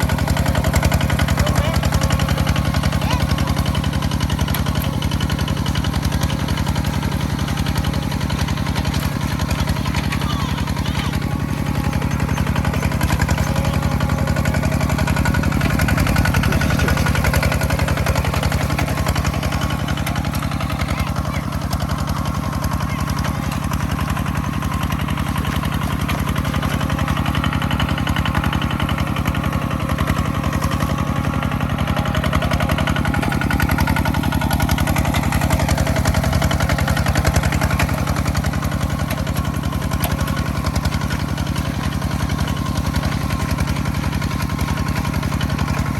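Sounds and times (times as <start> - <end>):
farm machine engine running: 0.0 - 45.9.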